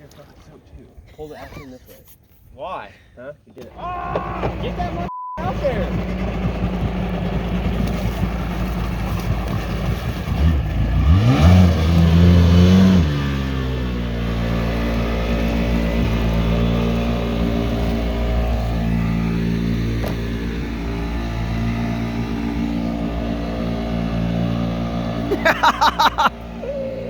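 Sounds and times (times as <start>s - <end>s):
jet ski engine revving: 3.7s - 27.0s.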